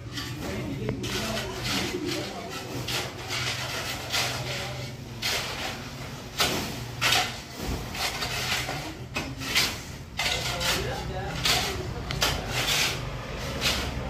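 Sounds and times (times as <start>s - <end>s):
metal shovels scraping sand: 0.0s - 14.0s.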